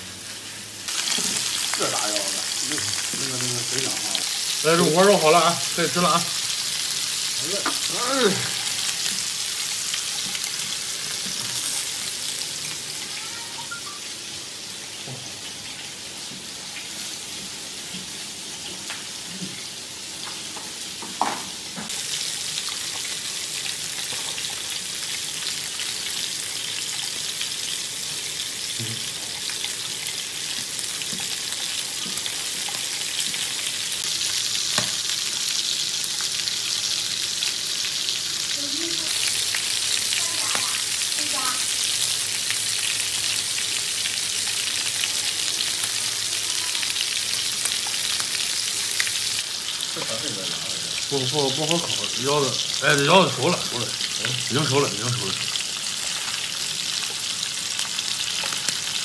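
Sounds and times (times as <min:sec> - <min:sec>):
meat sizzling on a grill: 0:00.0 - 0:59.0.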